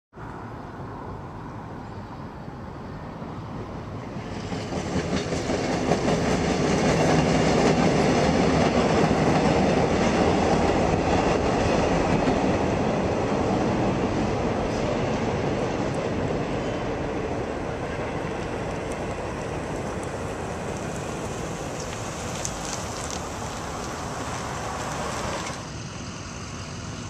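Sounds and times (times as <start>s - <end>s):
subway train rolling past: 0.2s - 27.0s.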